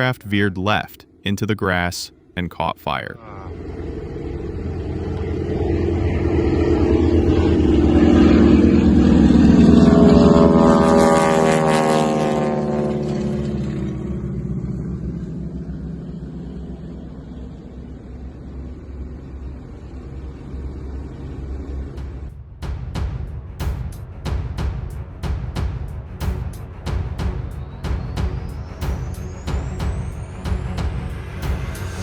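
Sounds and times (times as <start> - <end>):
engine passing by: 3.3 - 32.0.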